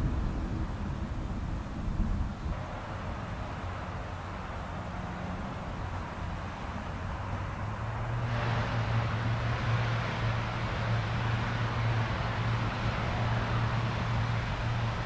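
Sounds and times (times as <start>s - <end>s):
low propeller drone: 0.0s - 15.0s
turboprop engine roar: 0.0s - 15.0s.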